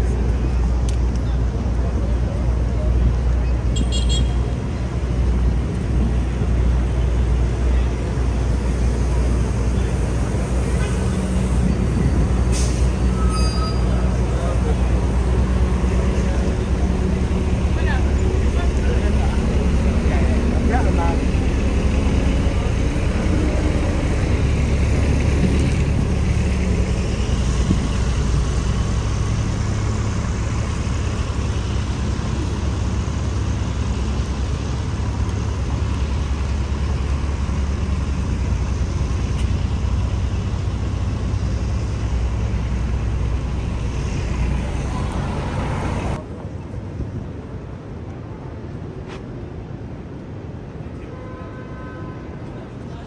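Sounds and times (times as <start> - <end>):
city traffic hum: 0.0 - 53.0.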